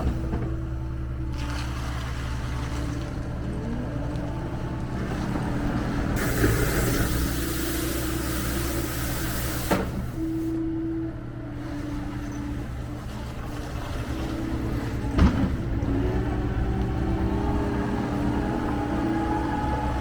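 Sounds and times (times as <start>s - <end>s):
diesel engine running: 0.0s - 20.0s
whine shifting pitch: 0.0s - 20.0s.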